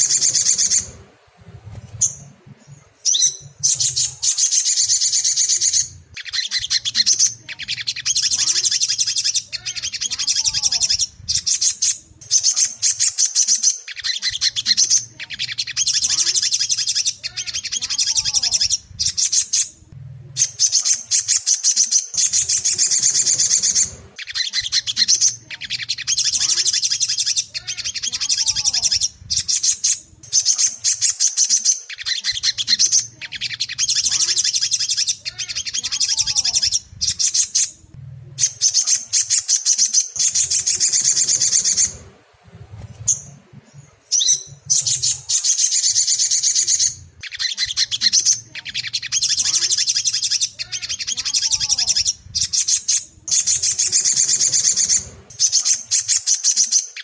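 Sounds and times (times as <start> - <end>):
faint low hum: 0.0 - 56.8
bird singing high twittering phrases: 0.0 - 57.0.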